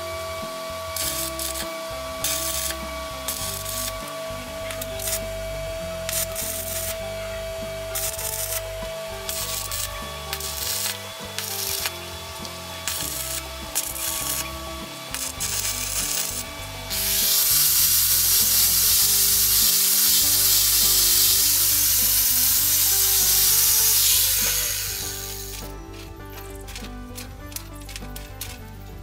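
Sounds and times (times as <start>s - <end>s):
angle grinder grinding metal: 0.0s - 29.0s
arc welder crackling: 0.0s - 29.0s.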